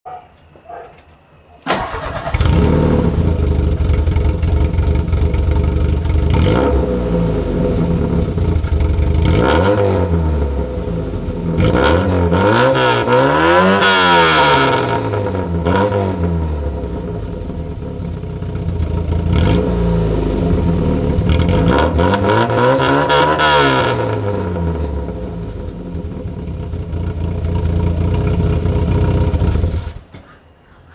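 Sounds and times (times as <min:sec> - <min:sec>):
car engine starting and revving: 0:01.7 - 0:30.1.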